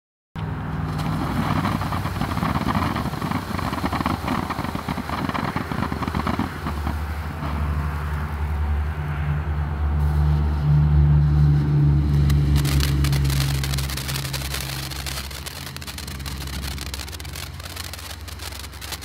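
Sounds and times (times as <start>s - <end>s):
firework fountain crackling hiss: 0.9s - 8.6s, 11.4s - 19.0s.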